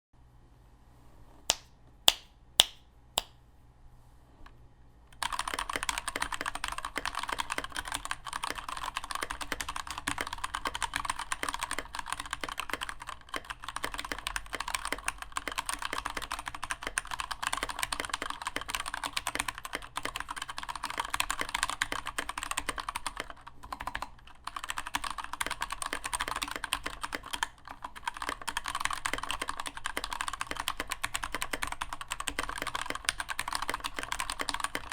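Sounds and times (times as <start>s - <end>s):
fast typing on keyboard: 5.2s - 34.9s.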